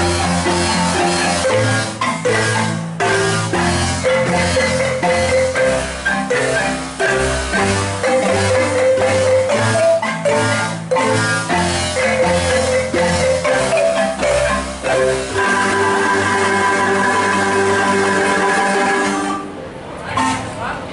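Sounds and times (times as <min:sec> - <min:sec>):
bass marimba line: 0:00.0 - 0:20.9
marimba ensemble playing: 0:00.0 - 0:20.9.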